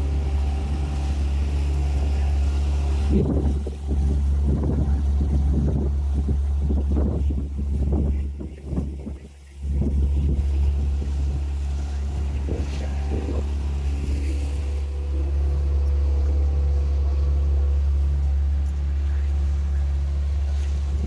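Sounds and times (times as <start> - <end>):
motorboat engine drone: 0.0 - 21.0
wind buffeting microphone: 0.0 - 21.0.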